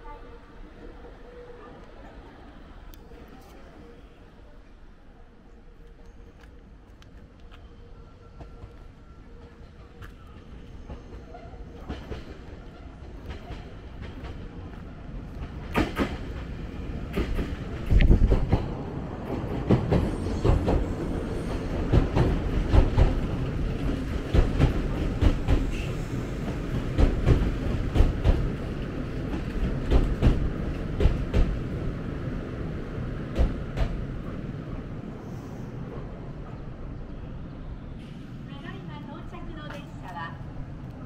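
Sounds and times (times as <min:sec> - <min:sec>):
train low rumble: 0:00.0 - 0:41.0.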